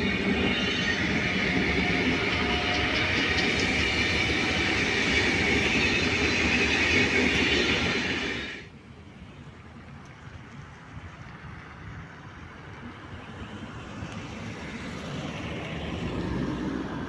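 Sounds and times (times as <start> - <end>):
train wheels rolling on rail: 0.0 - 17.0.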